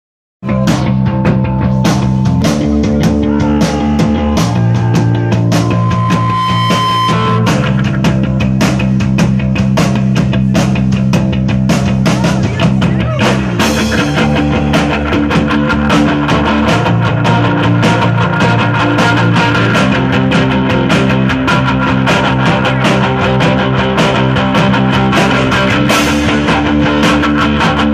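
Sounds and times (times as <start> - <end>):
drum kit steady beat: 0.4 - 27.9
live rock band playing: 0.4 - 27.9.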